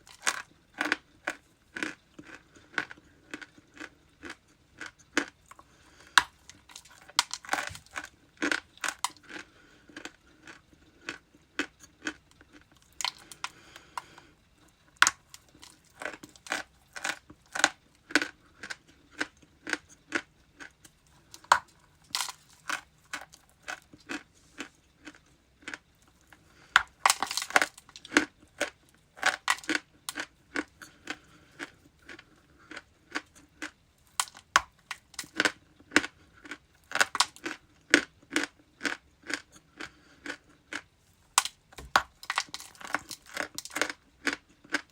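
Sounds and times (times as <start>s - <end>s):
chewing hard brittle food: 0.0s - 44.9s.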